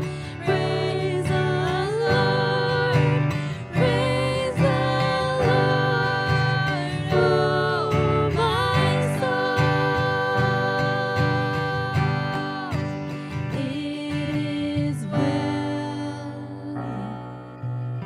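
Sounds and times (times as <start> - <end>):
woman singing: 0.0 - 17.8
keyboard accompaniment: 0.0 - 18.0.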